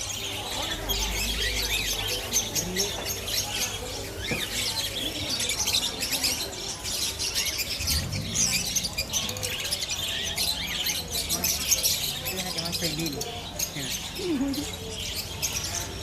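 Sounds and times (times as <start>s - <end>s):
caged birds chirping: 0.0s - 16.0s.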